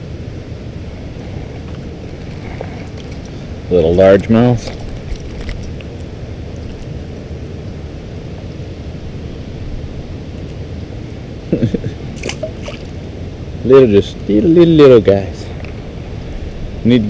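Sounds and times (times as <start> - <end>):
river water running through rapids: 0.0 - 17.0.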